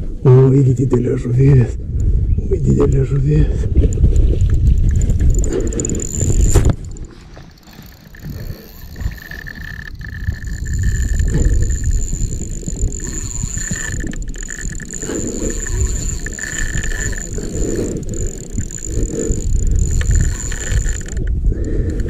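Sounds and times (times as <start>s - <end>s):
handling and wind rumble: 0.8s - 22.0s
fishing reel mechanical noise: 3.8s - 22.0s.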